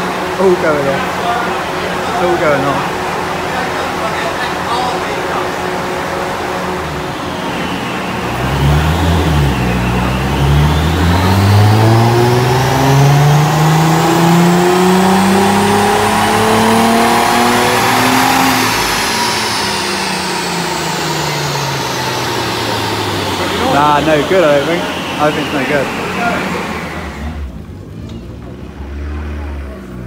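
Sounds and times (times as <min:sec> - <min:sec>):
car engine revving under load: 0:00.0 - 0:30.0.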